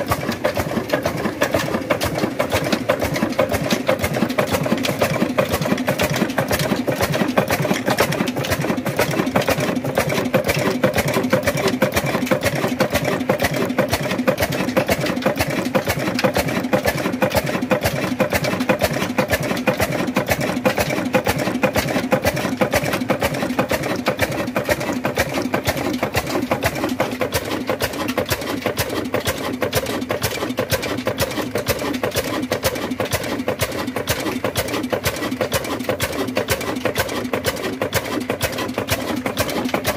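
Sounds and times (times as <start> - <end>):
machine clattering: 0.0 - 39.9.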